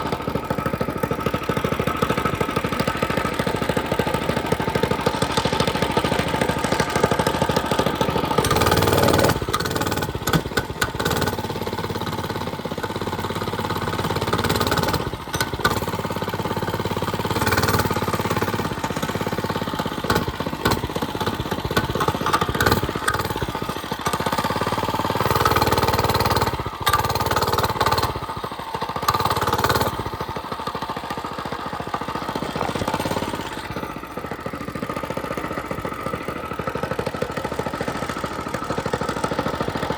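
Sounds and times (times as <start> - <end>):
mini bike engine revving: 0.0 - 39.9.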